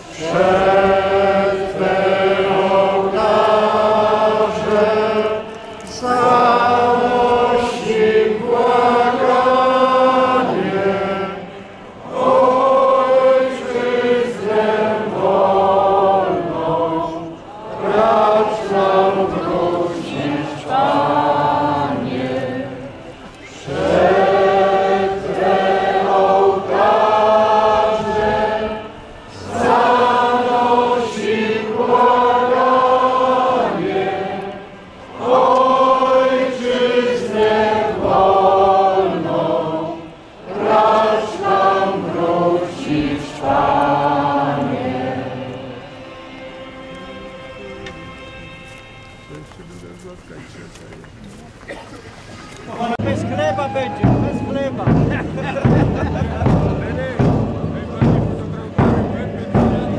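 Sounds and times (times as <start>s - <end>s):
choir singing slow song: 0.0s - 49.0s, 54.8s - 59.9s.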